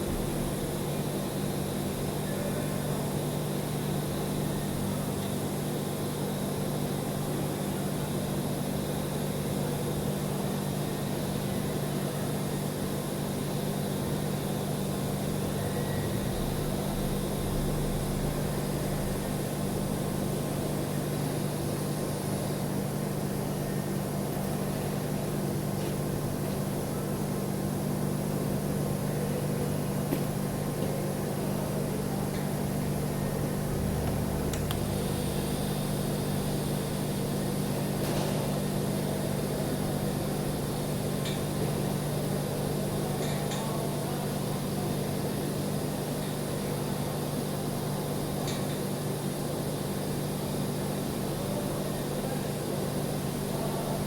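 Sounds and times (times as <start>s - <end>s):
welding hiss and hum: 0.0s - 54.0s.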